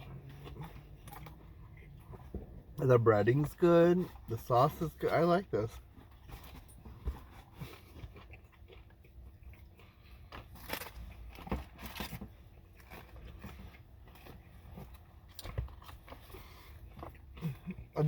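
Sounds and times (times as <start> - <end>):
person chewing fried chicken: 0.0 - 18.0.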